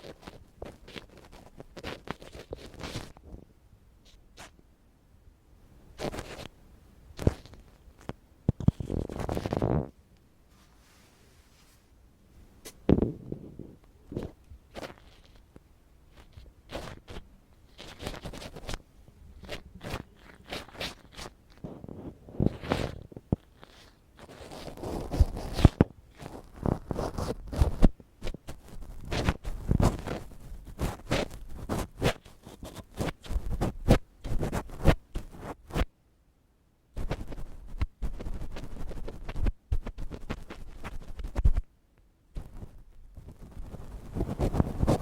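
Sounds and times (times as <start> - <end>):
ear pick scratching microphone: 0.0 - 3.4, 4.0 - 4.6, 6.0 - 6.5, 7.2 - 10.0, 12.6 - 15.5, 16.1 - 18.8, 19.4 - 35.9, 37.0 - 41.7, 42.3 - 45.0.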